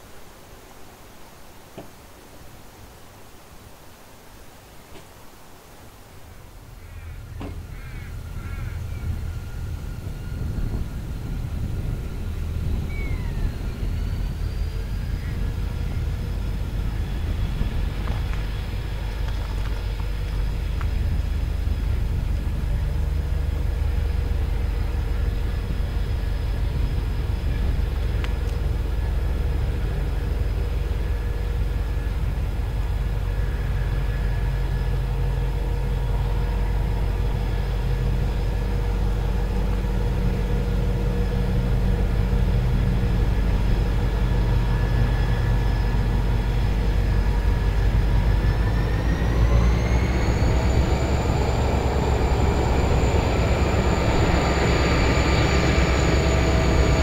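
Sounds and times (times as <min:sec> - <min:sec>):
locomotive engine rumble: 0:06.2 - 0:57.0
locomotive engine whine: 0:06.2 - 0:57.0.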